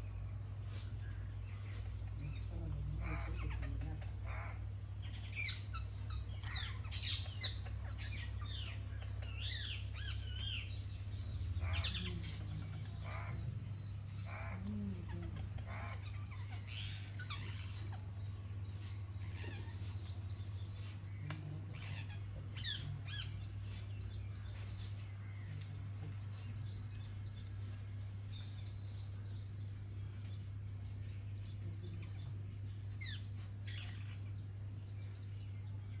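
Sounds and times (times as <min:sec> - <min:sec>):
parakeets calling: 0:00.8 - 0:27.1, 0:32.8 - 0:35.5.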